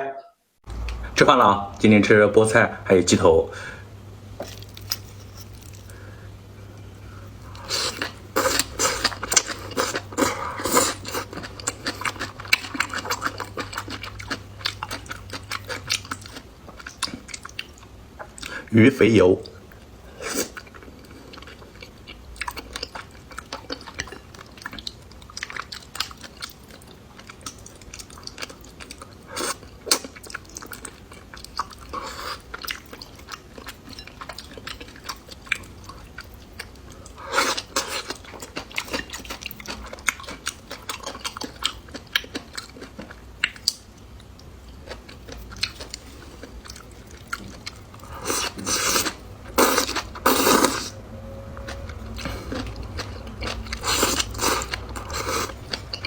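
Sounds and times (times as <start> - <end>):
person chewing food: 4.4 - 18.7, 19.4 - 51.0, 51.6 - 56.0.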